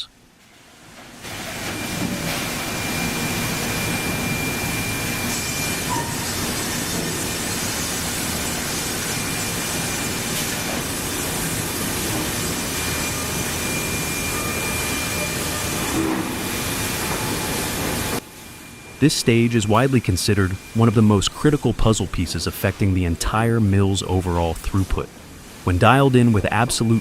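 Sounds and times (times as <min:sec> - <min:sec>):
conveyors running: 0:00.0 - 0:27.0
thin high whine: 0:01.4 - 0:25.1, 0:25.7 - 0:27.0.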